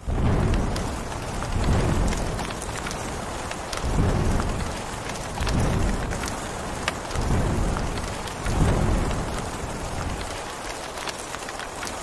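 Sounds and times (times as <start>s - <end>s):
low thunder rumbles: 0.0s - 10.8s
rain falling: 0.0s - 12.0s.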